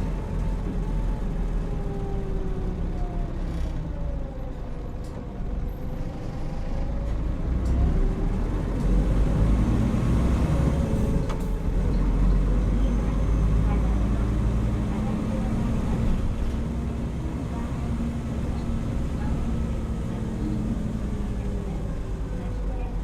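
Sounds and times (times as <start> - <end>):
bus engine from inside cabin: 0.0 - 23.0.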